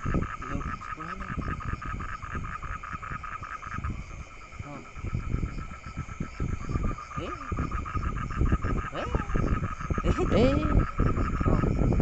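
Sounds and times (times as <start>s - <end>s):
frogs trilling: 0.0s - 12.0s.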